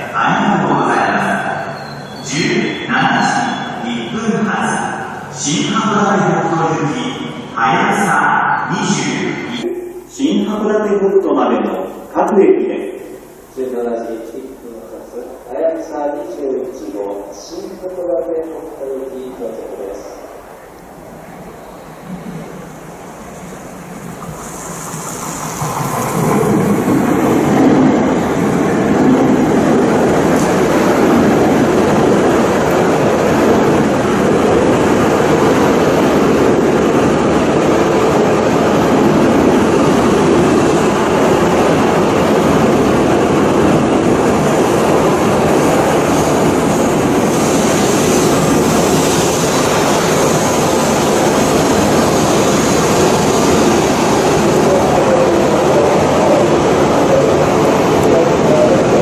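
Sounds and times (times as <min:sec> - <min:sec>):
train rolling along track: 0:00.0 - 0:59.0.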